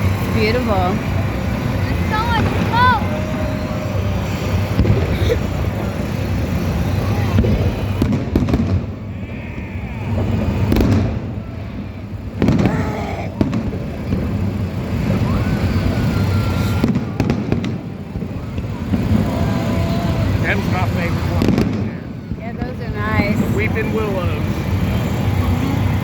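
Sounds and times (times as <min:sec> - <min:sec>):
sharp firework bangs: 0:00.0 - 0:25.5
fireworks booming: 0:00.0 - 0:26.0.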